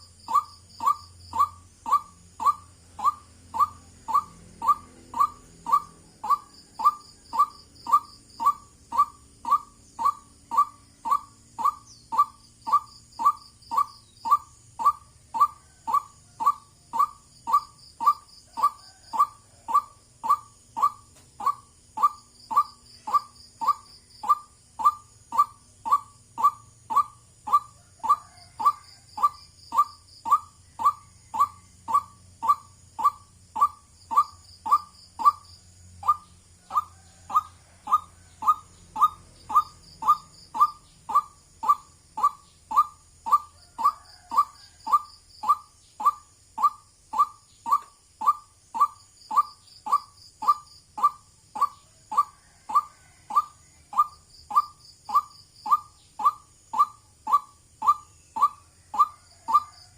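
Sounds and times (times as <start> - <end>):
faint high chirping: 0.0 - 59.9.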